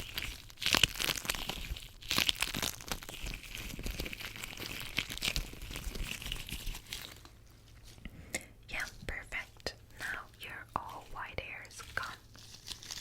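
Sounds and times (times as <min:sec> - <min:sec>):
rubber gloves crinkling on metal: 0:00.0 - 0:13.0.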